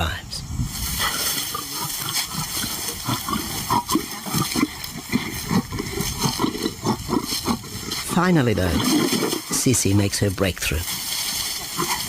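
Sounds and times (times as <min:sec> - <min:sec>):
lions growling and snarling: 0:00.8 - 0:12.0.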